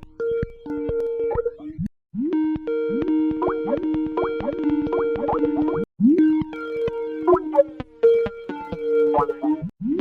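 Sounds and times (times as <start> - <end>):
bubbly electronic ringtone notes: 0.2 - 1.8, 2.8 - 9.7.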